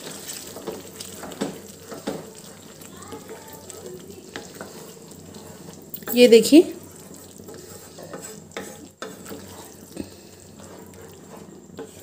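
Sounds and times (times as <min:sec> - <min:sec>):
gravy simmering sizzle: 0:00.0 - 0:12.0
spatula scraping pan: 0:00.0 - 0:12.0.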